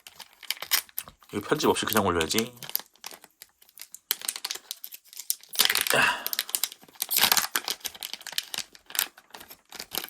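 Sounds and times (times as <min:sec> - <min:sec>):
wrapper crinkling and tearing: 0:00.0 - 0:10.0.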